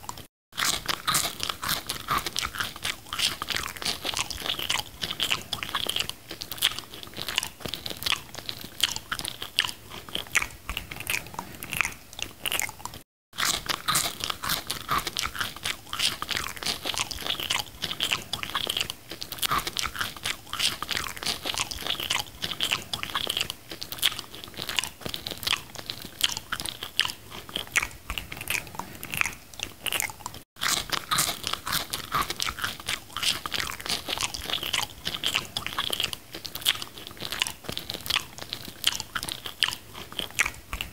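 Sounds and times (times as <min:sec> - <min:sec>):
person chewing with crunches: 0:00.0 - 0:40.9.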